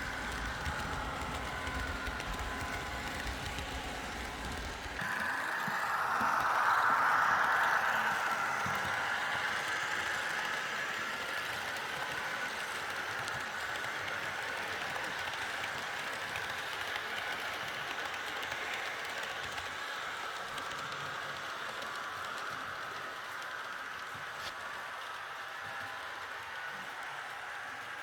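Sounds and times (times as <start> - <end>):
model train wheels rattling on rails: 0.0 - 28.0.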